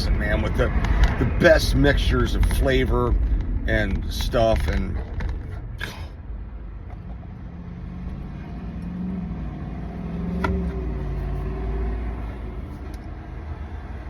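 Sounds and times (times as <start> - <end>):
car engine: 0.0 - 14.0
road rumble: 0.0 - 14.0.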